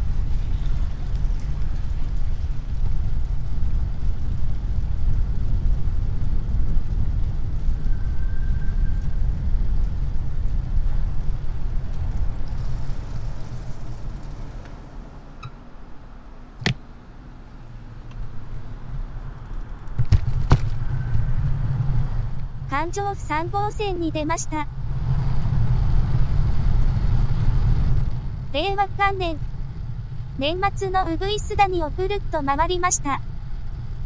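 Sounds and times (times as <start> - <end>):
vehicle road and wind rumble: 0.0 - 34.0.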